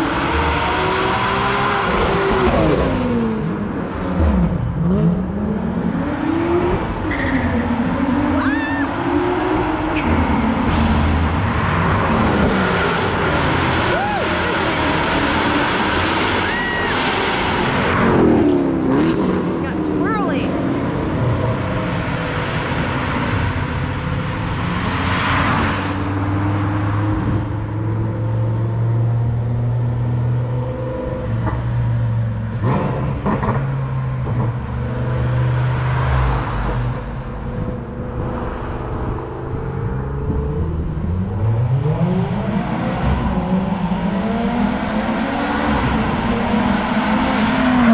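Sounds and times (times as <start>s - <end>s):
car accelerating: 0.0s - 47.9s
cars driving past: 0.0s - 47.9s.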